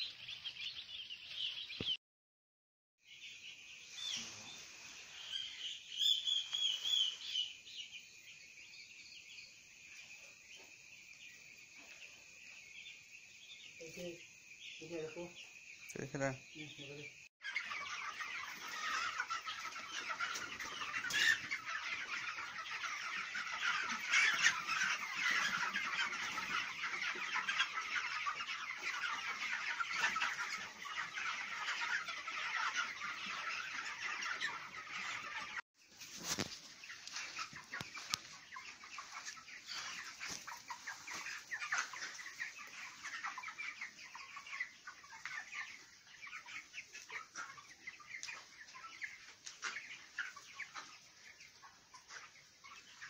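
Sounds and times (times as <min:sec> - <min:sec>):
chicks chirping and peeping: 0:00.0 - 0:02.0, 0:03.0 - 0:53.0.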